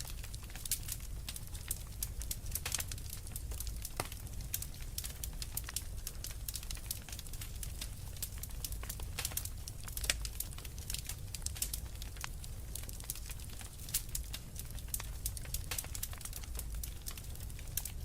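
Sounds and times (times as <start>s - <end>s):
low rumble of fire: 0.0s - 18.0s
wood fire crackling and popping: 0.0s - 18.0s.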